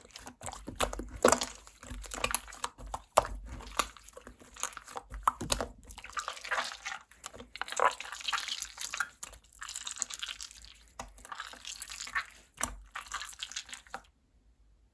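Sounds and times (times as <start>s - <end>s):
slime squelching by hand: 0.0s - 14.1s.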